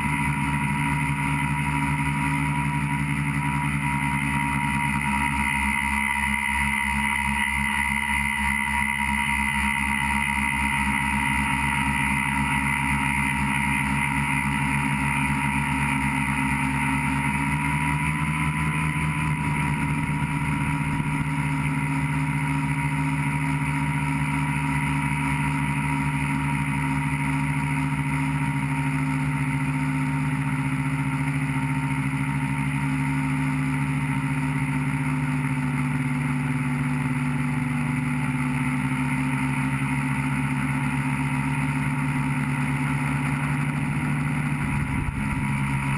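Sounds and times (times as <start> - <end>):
drone propellers whirring: 0.0 - 36.1, 36.8 - 45.9.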